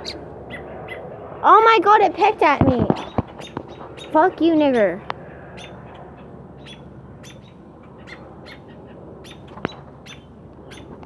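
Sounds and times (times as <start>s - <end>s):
small bird chirping: 0.0s - 1.1s, 2.7s - 11.0s.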